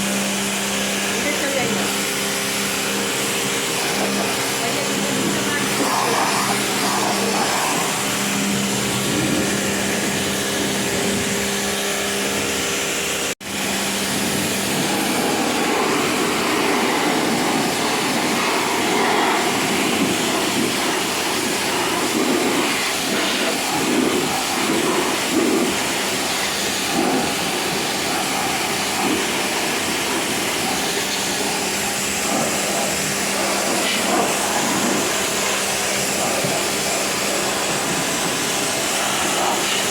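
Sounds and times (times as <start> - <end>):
pressure washer pump humming: 0.0 - 39.9
water jet hissing on metal coil: 0.0 - 39.9.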